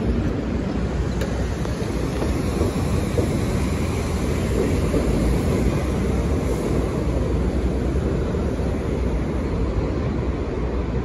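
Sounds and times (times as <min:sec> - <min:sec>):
train rumbling on elevated track: 0:00.0 - 0:11.0.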